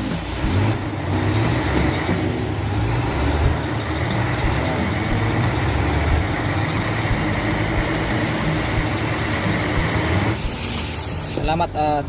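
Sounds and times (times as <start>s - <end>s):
air compressor charging: 0.0s - 11.6s
truck diesel engine idling: 0.0s - 12.0s.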